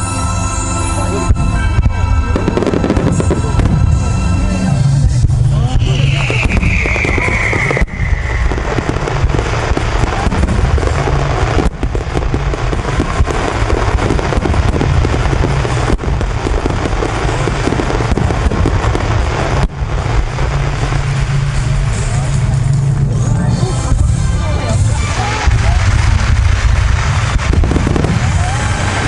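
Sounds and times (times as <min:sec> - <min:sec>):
falling firework whistle: 0:00.0 - 0:22.8, 0:25.0 - 0:29.0
fireworks bursting and crackling: 0:00.0 - 0:29.0.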